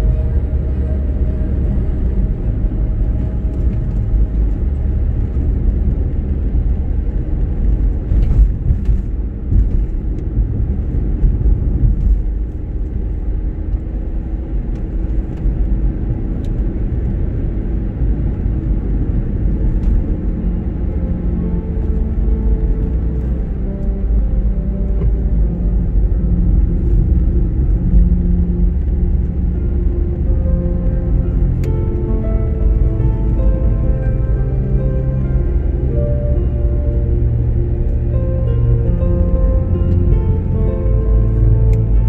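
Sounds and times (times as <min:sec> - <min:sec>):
car engine and tyre noise: 0:00.0 - 0:42.0.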